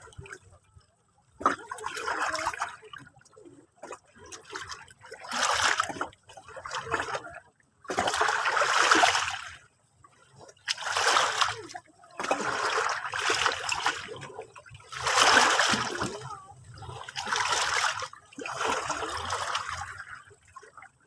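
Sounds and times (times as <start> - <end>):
sea water splashing: 1.4 - 21.0.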